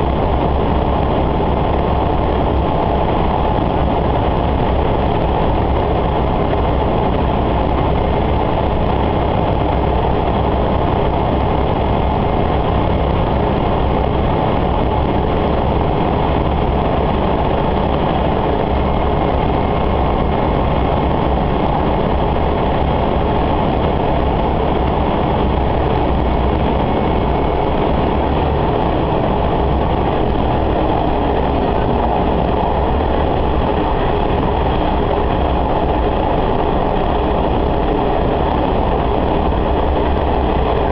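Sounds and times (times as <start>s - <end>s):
diesel railcar engine: 0.0s - 40.9s
wheels on rail: 0.0s - 40.9s.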